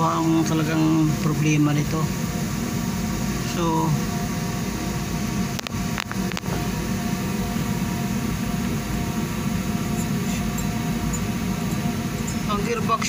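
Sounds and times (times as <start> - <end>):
low hum with whining tones: 0.0 - 13.0.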